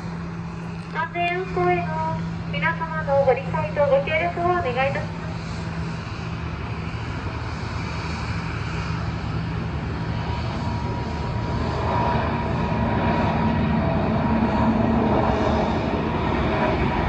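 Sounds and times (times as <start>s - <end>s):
jet engines roaring: 0.0s - 17.0s
steady whine: 0.0s - 17.0s.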